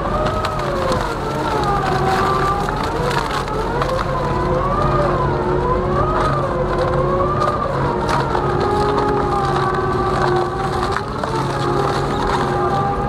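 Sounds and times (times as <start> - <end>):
wood cracking: 0.0 - 13.0
wood shredder running: 0.0 - 13.0.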